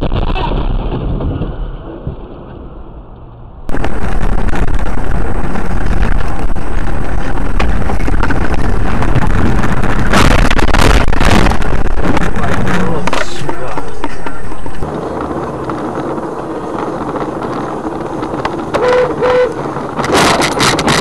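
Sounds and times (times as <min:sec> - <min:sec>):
distorted wind noise: 0:00.0 - 0:21.0
road noise rumble: 0:00.0 - 0:21.0.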